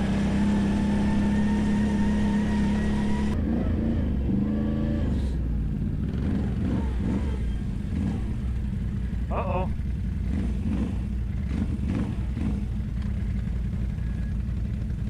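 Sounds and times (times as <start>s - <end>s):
atv engine under hard throttle: 0.0s - 15.0s.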